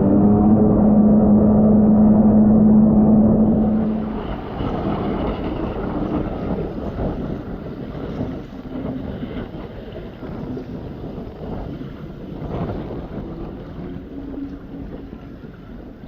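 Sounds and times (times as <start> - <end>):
jet ski engine: 0.0 - 16.0
water rushing: 0.0 - 16.0
wind buffeting microphone: 0.0 - 16.0.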